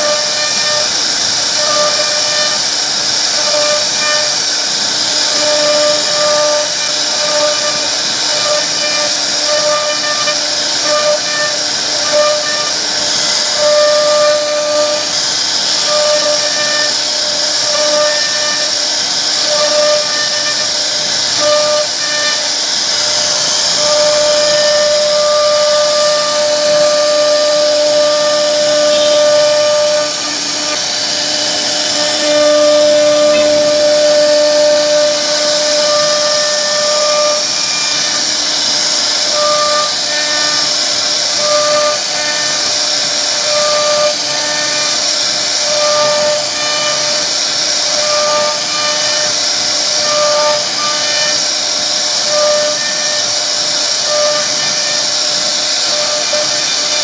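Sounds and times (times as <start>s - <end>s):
lower machine tone: 0.0s - 51.5s
router bit cutting wood: 0.0s - 57.0s
router spindle high whine: 0.0s - 57.0s.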